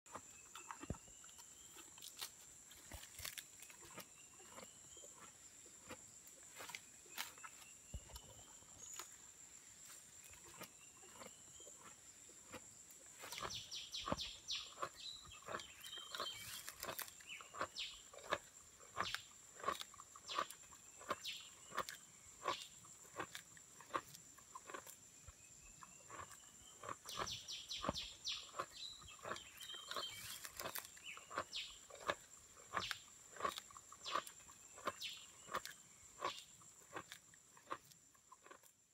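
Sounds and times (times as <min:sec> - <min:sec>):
rhino chewing leaves: 0:00.1 - 0:38.8.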